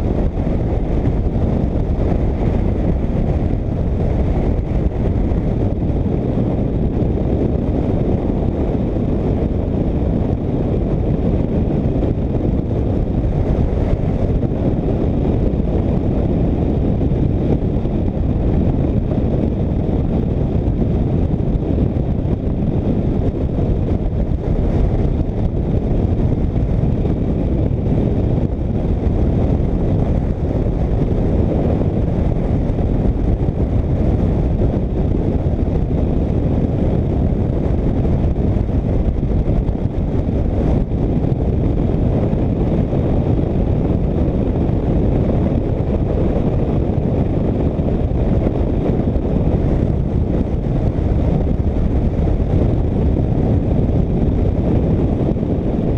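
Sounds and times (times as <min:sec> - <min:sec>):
road noise: 0:00.0 - 0:55.9
wind buffeting on microphone: 0:00.0 - 0:55.9.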